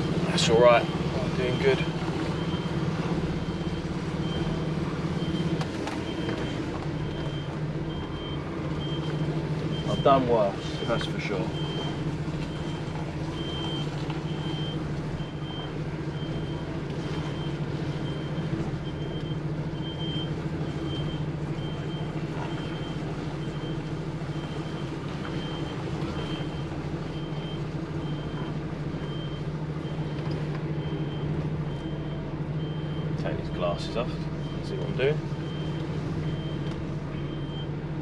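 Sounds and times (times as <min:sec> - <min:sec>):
reversing alarm beeping: 0:00.0 - 0:02.8, 0:03.4 - 0:37.8
diesel engine running at low revs: 0:00.0 - 0:38.0.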